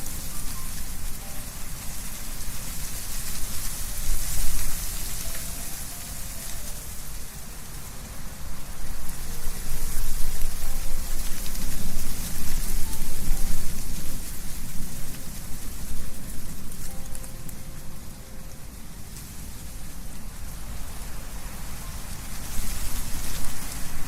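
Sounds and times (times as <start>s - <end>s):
leaves rustling: 0.0s - 24.0s
wind blowing through trees: 0.0s - 24.0s.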